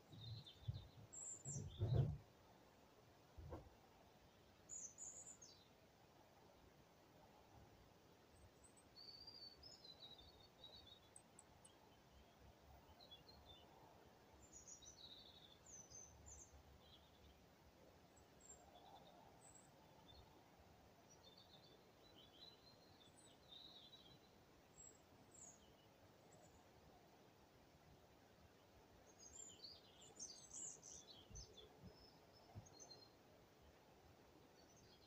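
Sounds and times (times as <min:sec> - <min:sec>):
faint birdsong: 0:00.0 - 0:35.0.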